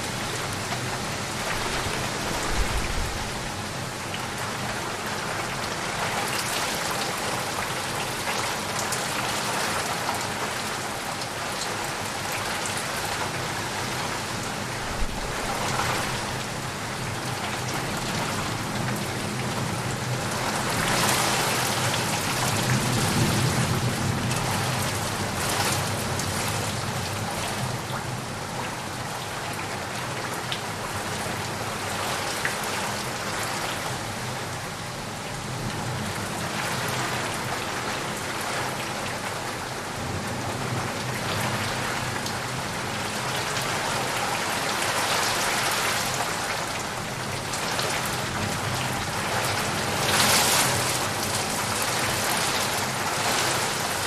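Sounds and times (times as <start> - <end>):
heavy rain on leaves and puddles: 0.0 - 54.0.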